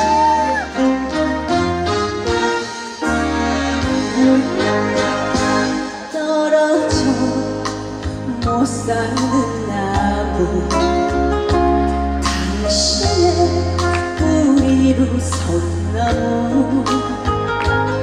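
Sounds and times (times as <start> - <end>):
slow ballad backing track: 0.0 - 18.0.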